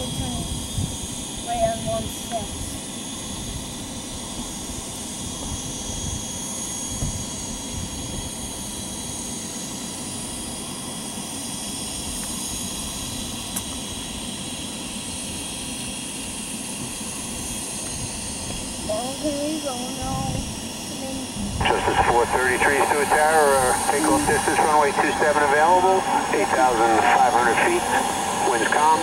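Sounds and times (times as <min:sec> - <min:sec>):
jet engines at taxi power: 0:00.0 - 0:29.0.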